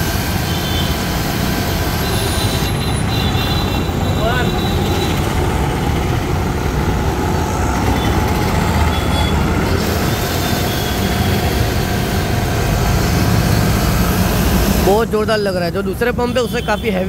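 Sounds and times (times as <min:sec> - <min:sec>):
pressure washer motor and pump drone: 0:00.0 - 0:16.7
street traffic: 0:00.0 - 0:17.0.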